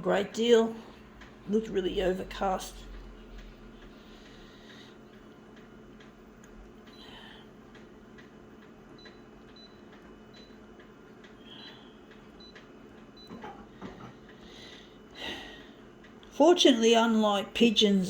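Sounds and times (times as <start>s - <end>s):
faint regular ticking: 0.2s - 13.3s, 14.2s - 16.4s.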